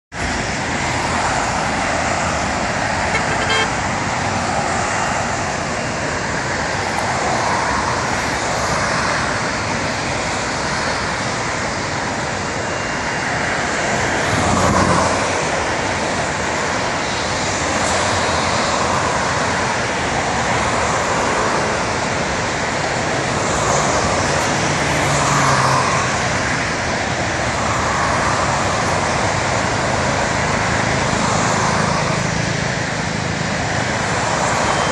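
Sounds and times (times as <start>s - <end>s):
road traffic noise: 0.1s - 34.9s
cars passing close by: 0.2s - 34.9s.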